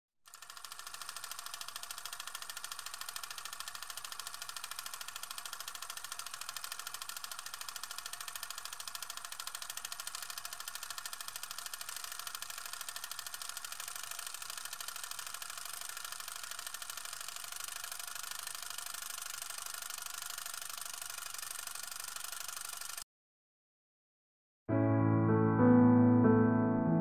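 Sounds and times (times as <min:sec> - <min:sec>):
film projector clatter: 0:00.3 - 0:23.0.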